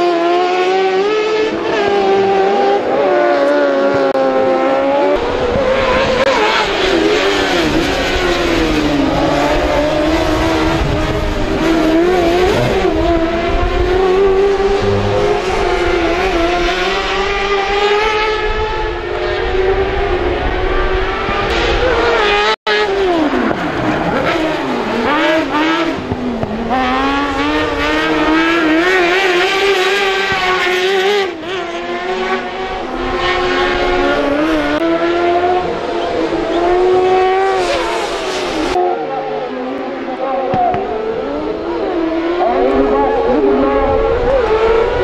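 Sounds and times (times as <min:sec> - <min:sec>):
racing buggy engines revving: 0:00.0 - 0:45.0.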